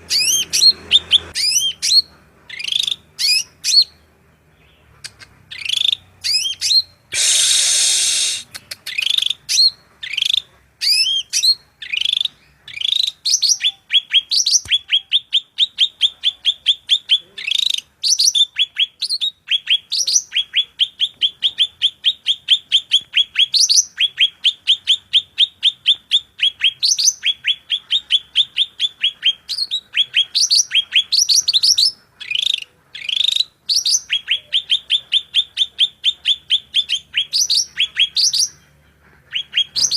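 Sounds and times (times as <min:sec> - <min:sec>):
harsh rasping bird call: 0:00.0 - 0:04.1, 0:04.8 - 0:39.9
songbird singing: 0:00.0 - 0:39.9.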